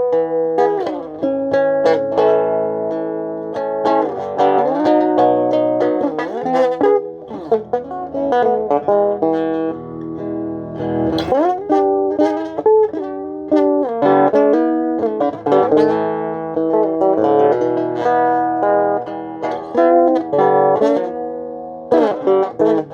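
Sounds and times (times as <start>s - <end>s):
electric guitar melody: 0.0s - 22.9s.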